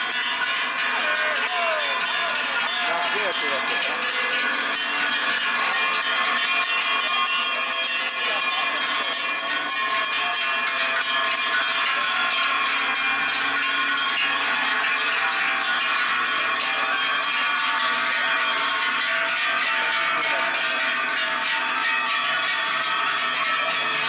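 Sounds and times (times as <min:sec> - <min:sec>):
cowbells clanging: 0:00.0 - 0:24.0.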